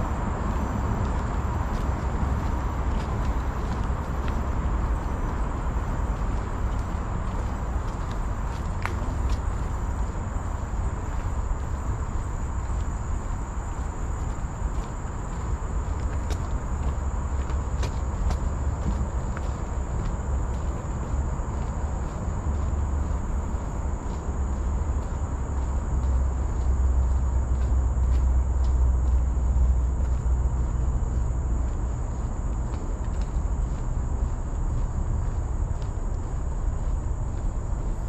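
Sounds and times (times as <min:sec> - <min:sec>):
high-pitched insect chorus: 0:00.0 - 0:38.0
low wind rumble: 0:00.0 - 0:38.0.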